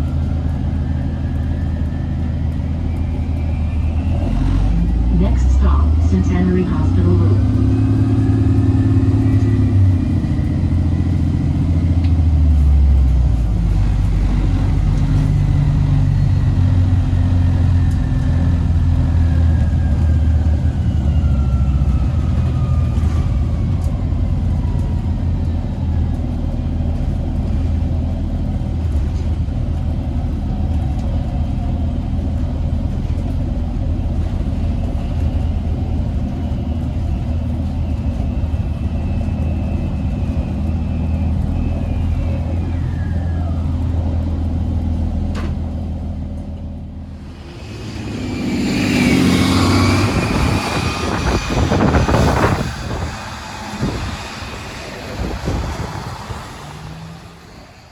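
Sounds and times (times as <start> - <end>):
bus engine rumble: 0.0 - 57.9.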